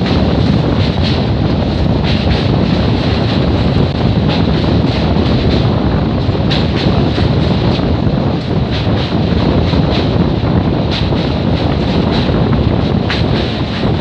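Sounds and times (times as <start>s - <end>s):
train running noise: 0.0s - 14.0s
wind buffeting microphone: 0.0s - 14.0s.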